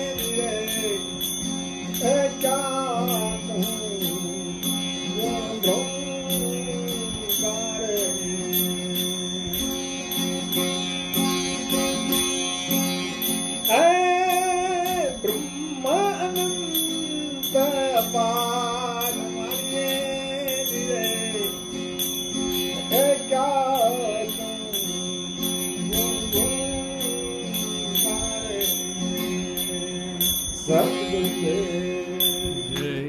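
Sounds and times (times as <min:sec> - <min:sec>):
light high-pitched percussion: 0:00.0 - 0:33.0
wavering lead melody: 0:00.0 - 0:33.0.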